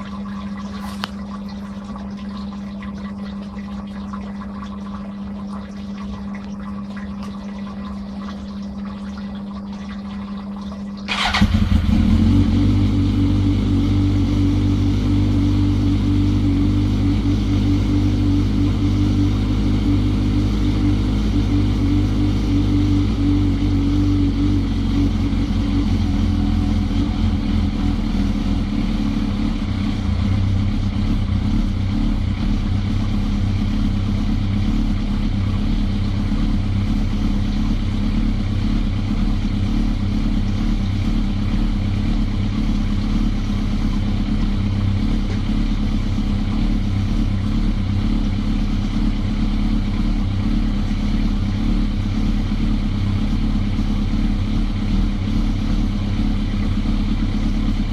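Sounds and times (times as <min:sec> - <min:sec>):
motorcycle engine running: 0:11.1 - 0:57.9.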